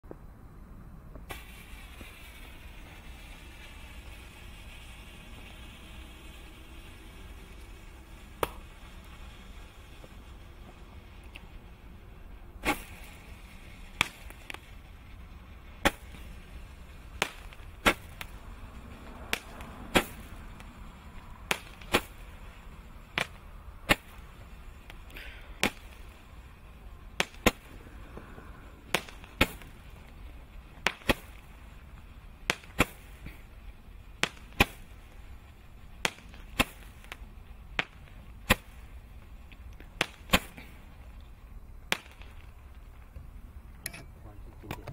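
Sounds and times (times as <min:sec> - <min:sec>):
firework bangs: 0:01.1 - 0:43.8.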